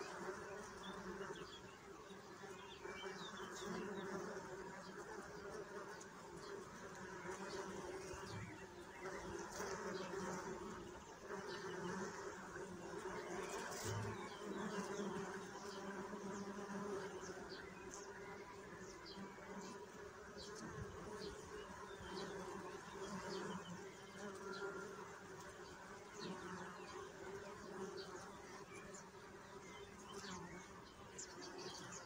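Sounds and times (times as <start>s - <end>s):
bees buzzing: 0.0s - 32.0s.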